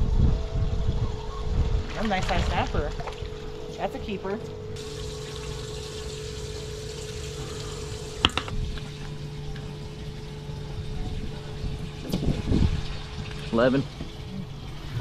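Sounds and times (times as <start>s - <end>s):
steady hum: 0.0s - 15.0s
water running: 1.8s - 15.0s.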